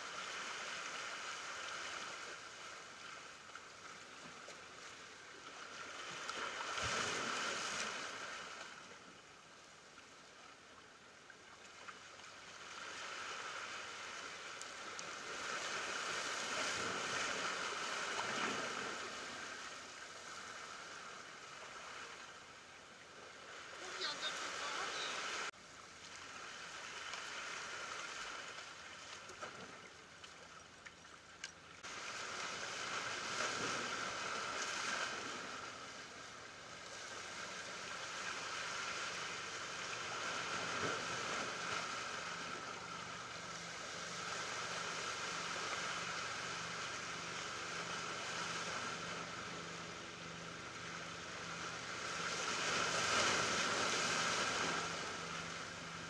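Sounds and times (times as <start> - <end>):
waves surging over rocks: 0.0 - 9.8, 12.3 - 30.2, 31.8 - 56.0.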